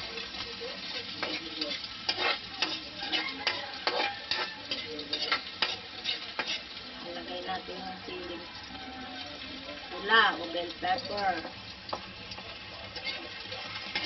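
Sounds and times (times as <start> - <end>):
garlic and onion sizzling in oil: 0.0 - 14.0
spatula scraping wok: 0.0 - 14.0.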